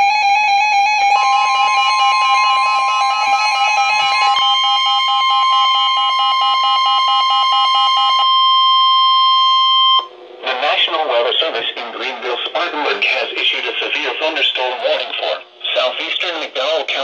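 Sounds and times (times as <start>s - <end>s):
steady high alert tone: 1.1s - 16.1s.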